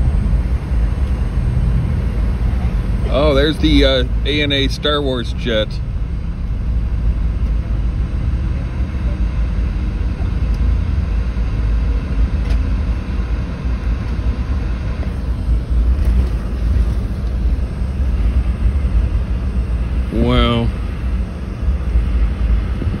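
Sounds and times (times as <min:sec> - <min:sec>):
airliner cabin rumble and hiss: 0:00.0 - 0:23.0.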